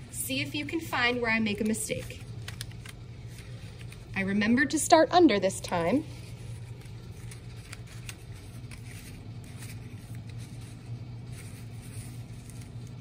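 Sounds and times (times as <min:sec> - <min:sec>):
steady low hum: 0:00.0 - 0:13.0
paper rustling and scraping: 0:01.0 - 0:04.5, 0:05.6 - 0:13.0.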